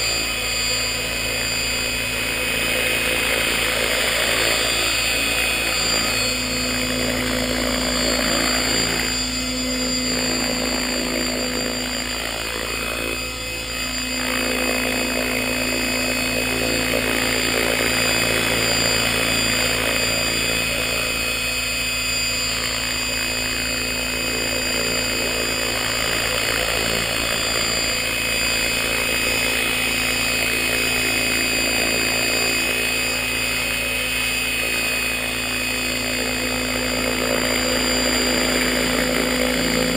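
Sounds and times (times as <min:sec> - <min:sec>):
model helicopter rotor whine: 0:00.0 - 0:39.9.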